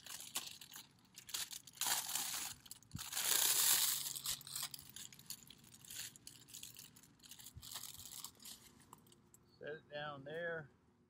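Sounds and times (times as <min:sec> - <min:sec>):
plastic wrapping rustling: 0:00.0 - 0:09.2.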